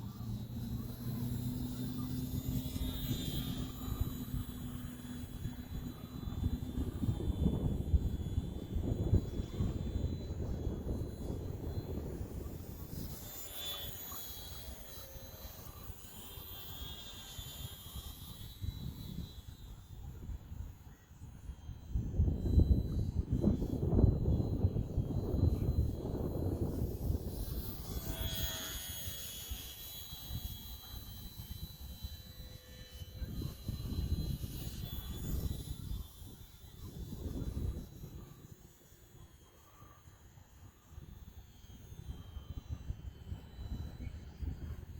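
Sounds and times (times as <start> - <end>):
model airplane motor whining: 0.0 - 44.9
wind buffeting microphone: 0.0 - 44.9.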